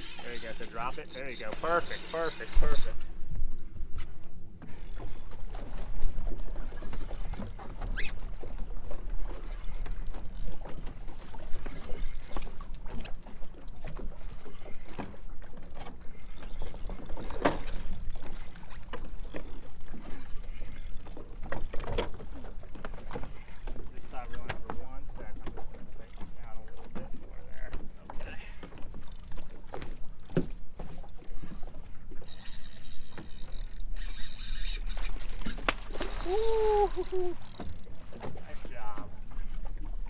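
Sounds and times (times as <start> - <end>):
waves slapping against boat hull: 2.9 - 33.7, 34.8 - 40.0.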